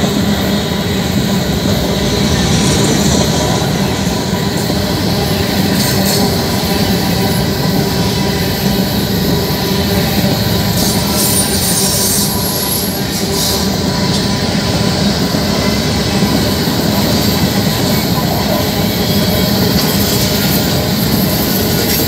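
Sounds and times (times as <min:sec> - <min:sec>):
train wheels rumbling on rail: 0:00.0 - 0:22.0
high wheel squeals: 0:00.2 - 0:22.0.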